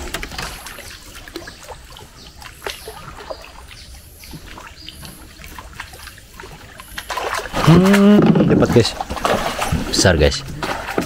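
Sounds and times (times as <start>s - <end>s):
water drips: 0.0s - 11.0s.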